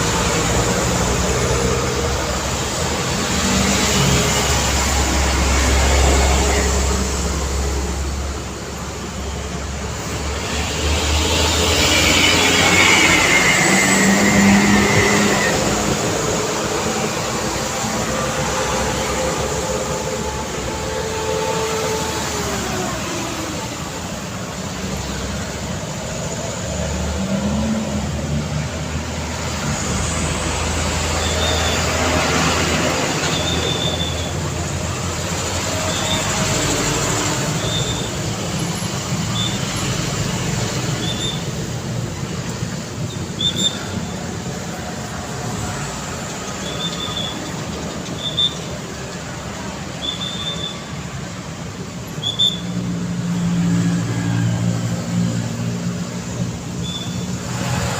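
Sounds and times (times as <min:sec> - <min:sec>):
street traffic passing: 0:00.0 - 0:57.9.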